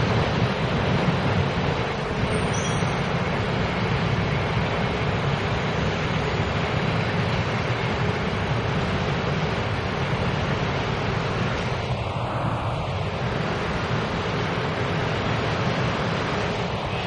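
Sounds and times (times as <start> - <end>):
train running on tracks: 0.0 - 17.0.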